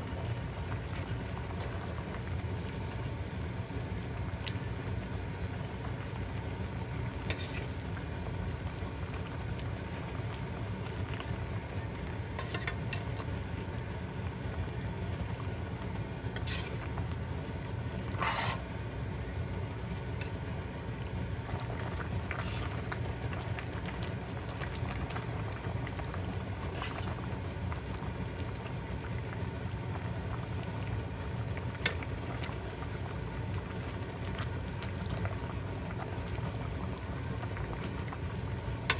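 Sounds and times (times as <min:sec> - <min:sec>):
pot of soup boiling: 0:00.0 - 0:38.9.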